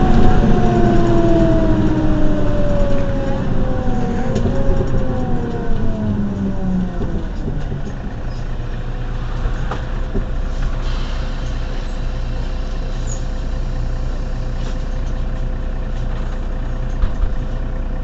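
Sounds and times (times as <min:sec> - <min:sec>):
bus engine idling: 0:00.0 - 0:18.0.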